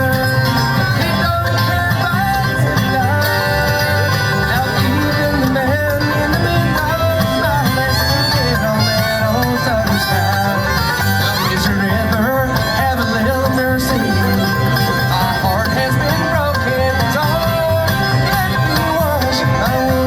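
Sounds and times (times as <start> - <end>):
upbeat bluegrass song: 0.0 - 20.0.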